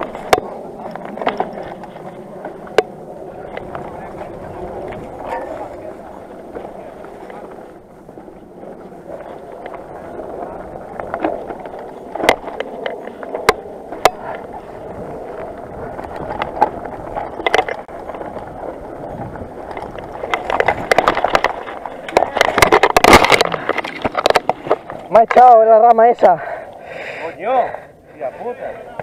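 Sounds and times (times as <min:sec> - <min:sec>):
bike tyres rolling on dirt: 0:00.0 - 0:29.0.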